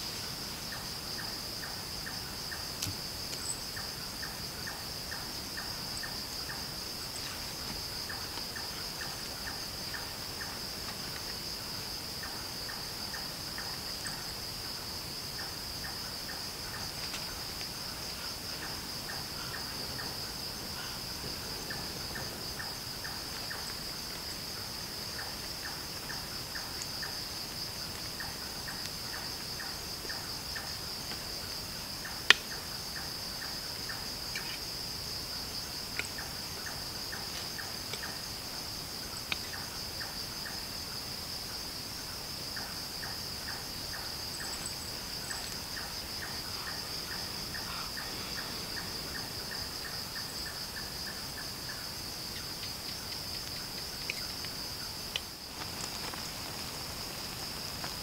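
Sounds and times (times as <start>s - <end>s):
crickets trilling: 0.0s - 58.0s
fast repeated insect chirps: 0.0s - 58.0s.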